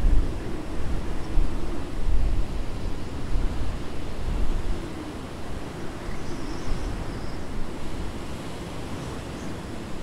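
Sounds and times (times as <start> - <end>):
rush of moving air: 0.0 - 10.0
wind buffeting microphone: 0.0 - 10.0.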